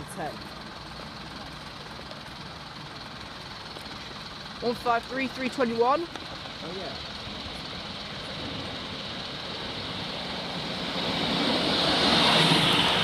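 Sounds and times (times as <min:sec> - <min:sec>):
diesel train approaching: 0:00.0 - 0:13.0.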